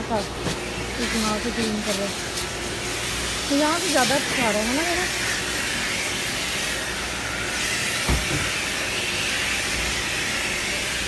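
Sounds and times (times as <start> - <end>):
vacuum hose hissing: 0.0 - 11.0.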